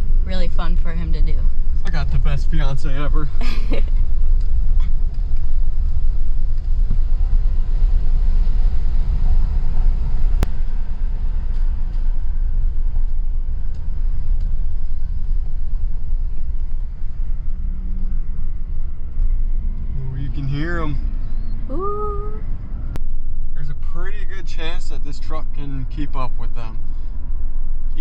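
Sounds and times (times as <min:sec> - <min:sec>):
vehicle rumble from inside cab: 0:00.0 - 0:28.0.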